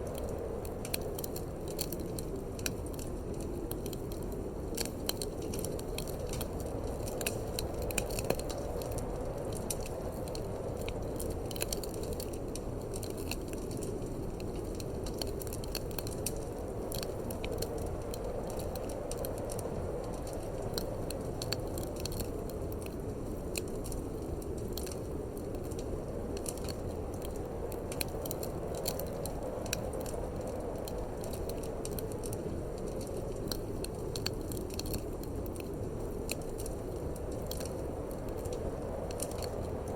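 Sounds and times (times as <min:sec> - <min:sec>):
low rush of wind: 0:00.0 - 0:39.9
wood fire crackling and popping: 0:00.0 - 0:39.9.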